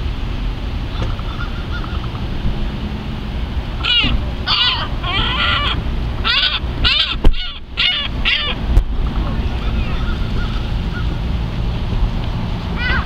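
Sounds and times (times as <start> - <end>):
gulls calling: 0.0 - 13.0
wind rumble on microphone: 0.0 - 13.0.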